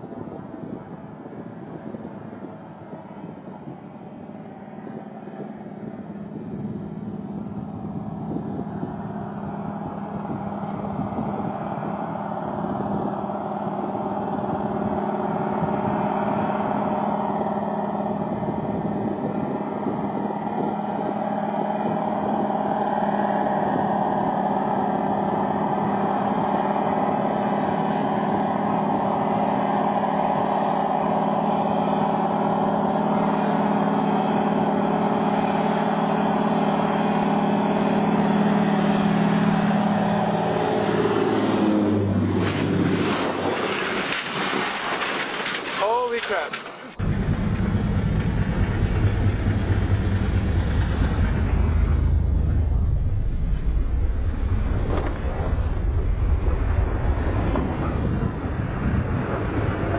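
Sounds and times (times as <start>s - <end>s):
propeller plane engine drone: 0.0s - 45.1s, 47.0s - 59.9s.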